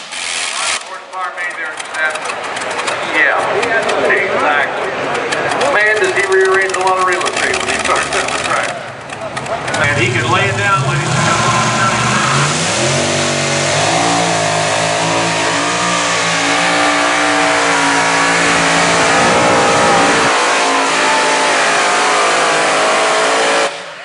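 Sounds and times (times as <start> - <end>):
tractor engines at full throttle: 0.0 - 24.0.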